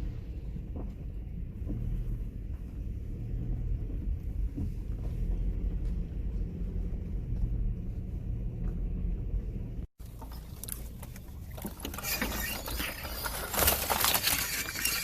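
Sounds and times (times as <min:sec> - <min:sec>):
car engine rumble: 0:00.0 - 0:15.0
tyres on dirt: 0:00.1 - 0:15.0.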